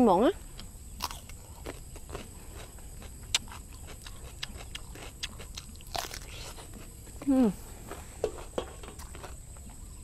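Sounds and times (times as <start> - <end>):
crunchy chewing of cucumber: 0.3 - 10.0.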